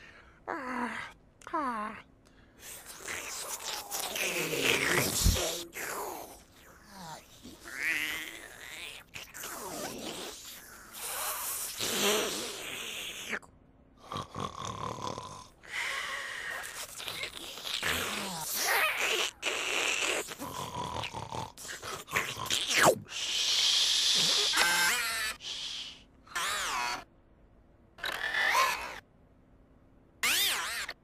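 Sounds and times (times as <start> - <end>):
snuffly cartoon noises: 2.6 - 27.1, 28.0 - 29.0, 30.2 - 31.0.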